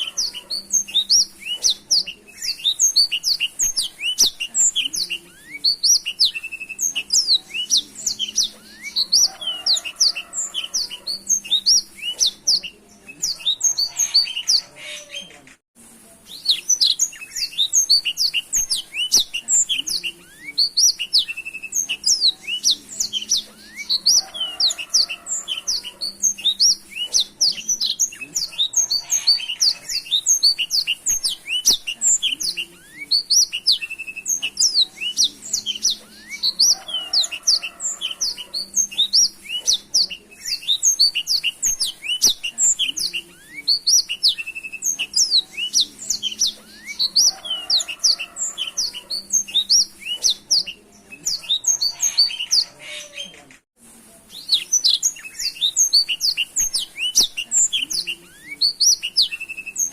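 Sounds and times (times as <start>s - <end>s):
canary singing: 0.0s - 53.6s, 54.3s - 59.9s.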